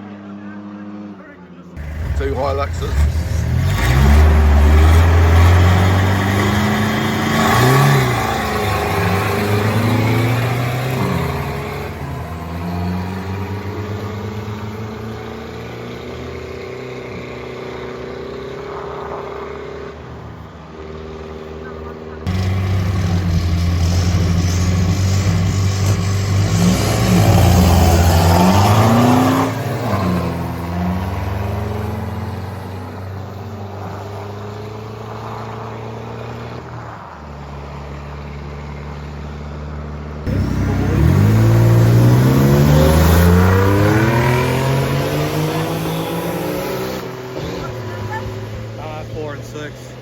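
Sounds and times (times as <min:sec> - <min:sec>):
vehicle engines revving hard: 0:00.0 - 0:50.0.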